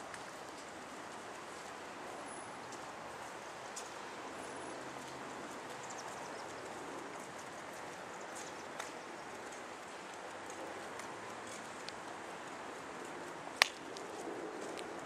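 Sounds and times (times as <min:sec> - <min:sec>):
footsteps on paved path: 0:00.0 - 0:15.0
outdoor background hiss: 0:00.0 - 0:15.0.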